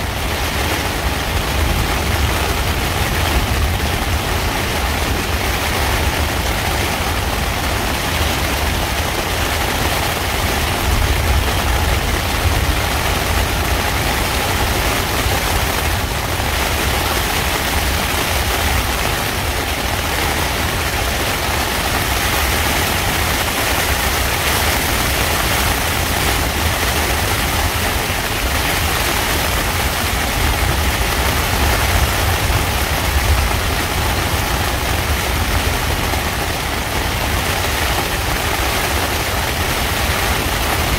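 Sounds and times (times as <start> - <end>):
rain hissing on a tent: 0.0 - 40.9.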